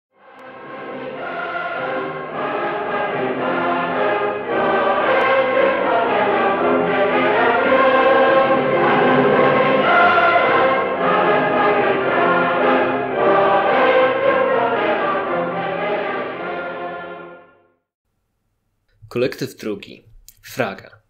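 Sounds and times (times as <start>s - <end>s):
choir singing held chords: 0.2s - 17.8s.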